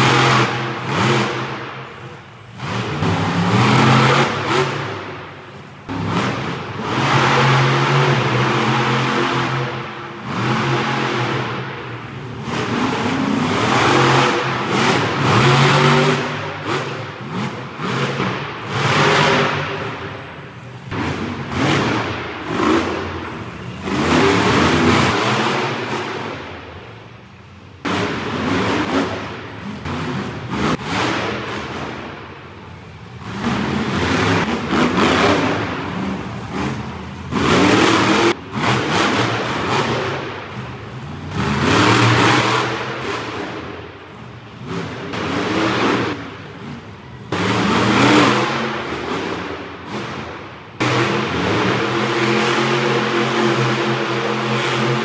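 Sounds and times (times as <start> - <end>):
monster truck engines revving: 0.0 - 55.0.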